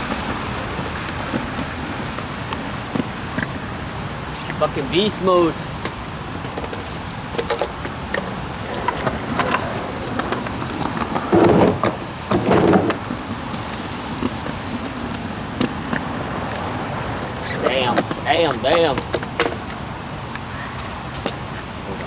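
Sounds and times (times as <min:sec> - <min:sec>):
skateboard sliding on rail: 0:00.0 - 0:04.8, 0:05.9 - 0:20.2
skateboard on wet concrete: 0:00.0 - 0:22.0
steady rain: 0:00.0 - 0:22.0.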